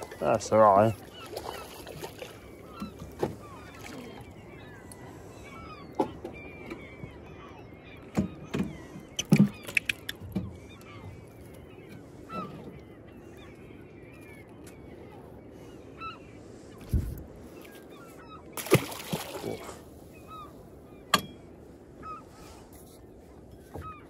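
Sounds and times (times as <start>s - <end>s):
seagulls calling: 0.0s - 24.0s.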